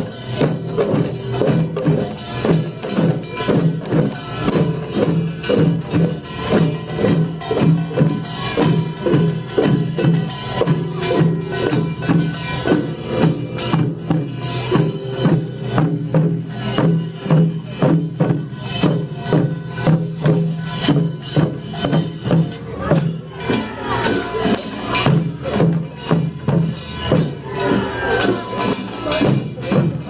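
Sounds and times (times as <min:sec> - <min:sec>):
drums beating: 0:00.0 - 0:30.0
small gongs clanging: 0:00.0 - 0:30.0.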